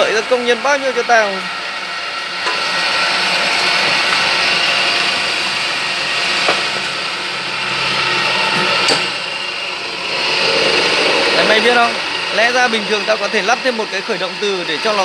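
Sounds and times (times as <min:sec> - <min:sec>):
motor-driven puller running: 0:00.0 - 0:15.0.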